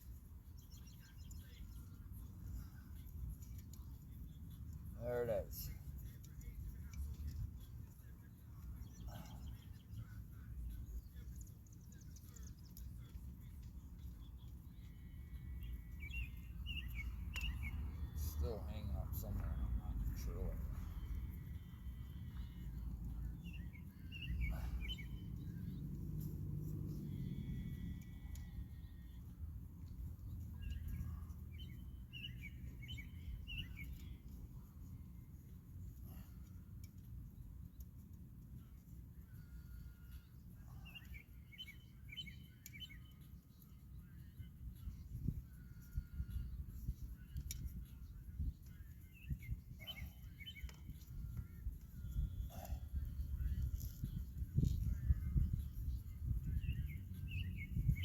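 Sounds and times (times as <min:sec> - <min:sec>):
bird chirping: 0:00.0 - 0:26.3, 0:26.9 - 0:38.1, 0:38.7 - 0:58.0.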